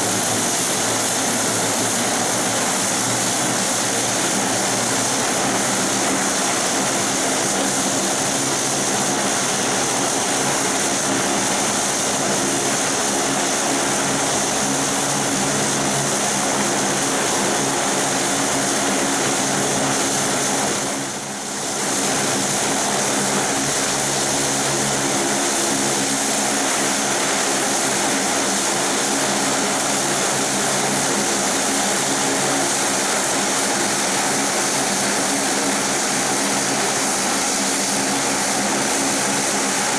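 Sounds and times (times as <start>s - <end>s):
propeller drone: 0.0s - 39.9s.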